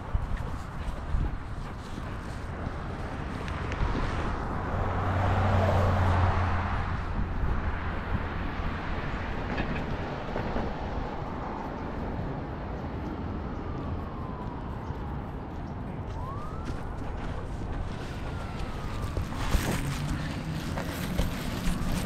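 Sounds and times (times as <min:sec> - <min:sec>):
outdoor background noise: 0:00.0 - 0:22.0
vehicle passing: 0:00.0 - 0:22.0.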